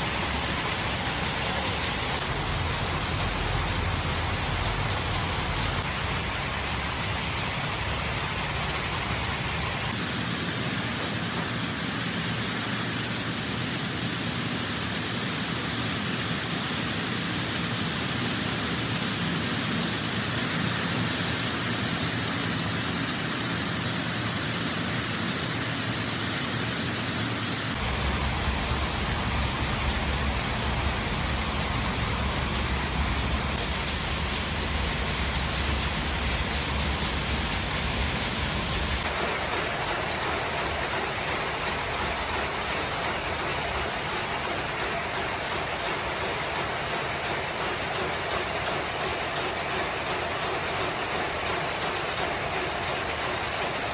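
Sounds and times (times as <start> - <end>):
factory machinery din: 0.0 - 53.9.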